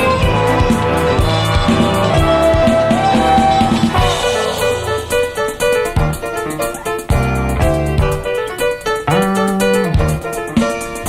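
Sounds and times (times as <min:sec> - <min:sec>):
bass: 0:00.0 - 0:11.0
drums: 0:00.0 - 0:11.0
held lead melody note: 0:00.0 - 0:11.0.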